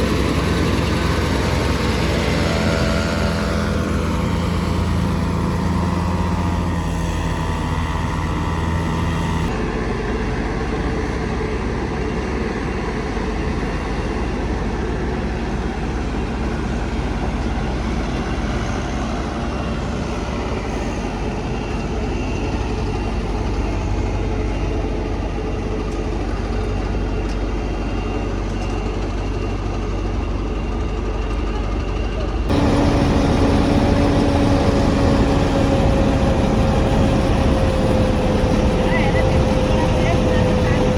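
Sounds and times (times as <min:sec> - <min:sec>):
engine and road rumble: 0:00.0 - 0:40.9.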